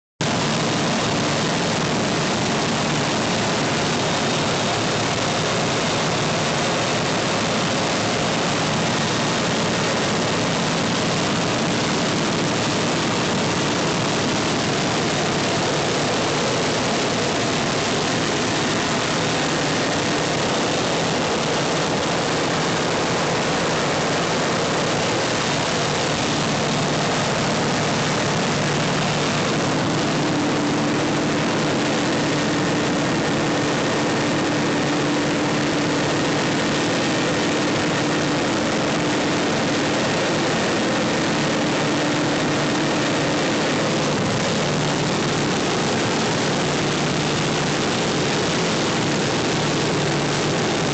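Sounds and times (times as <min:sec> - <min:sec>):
light aircraft engine drone: 0:00.2 - 0:50.9.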